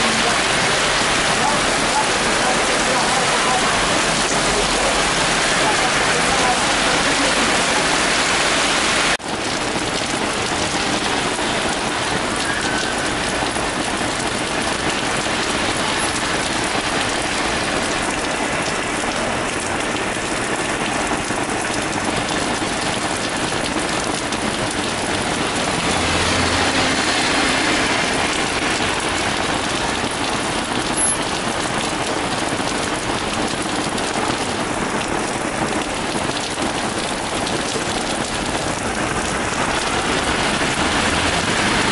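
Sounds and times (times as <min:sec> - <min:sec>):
car driving through water: 0:00.0 - 0:41.9
heavy rain on flooded street: 0:00.0 - 0:41.9.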